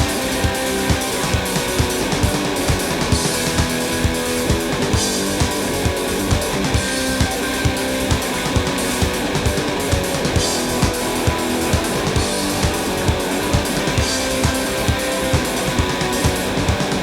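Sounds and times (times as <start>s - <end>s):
steady drum beat: 0.0s - 17.0s
strummed electric guitar: 0.0s - 17.0s.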